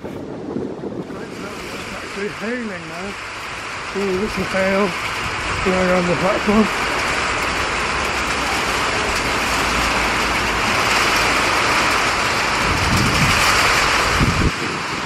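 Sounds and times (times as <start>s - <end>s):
low rumbles: 0.0s - 15.0s
hail and rain on stone paving: 1.0s - 15.0s.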